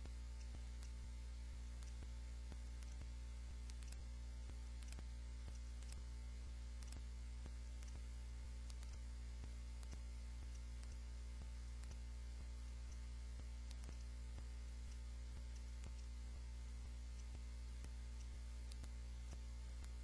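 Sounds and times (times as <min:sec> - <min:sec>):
faint clicks and crackle: 0:00.0 - 0:20.0
low electrical mains hum: 0:00.0 - 0:20.0.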